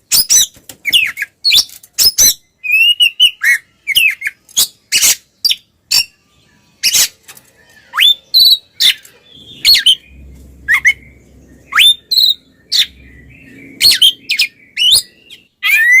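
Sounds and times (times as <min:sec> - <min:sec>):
bird singing whistles and rasps: 0:00.0 - 0:16.0.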